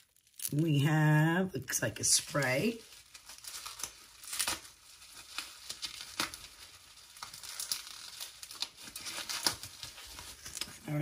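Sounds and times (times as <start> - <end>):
packaging crinkling: 0.0 - 0.6, 2.0 - 11.0.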